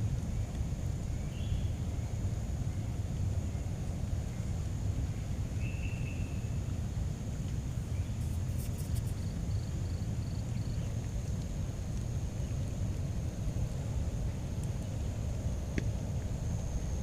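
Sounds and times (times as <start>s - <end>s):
high insect drone: 0.4s - 17.0s.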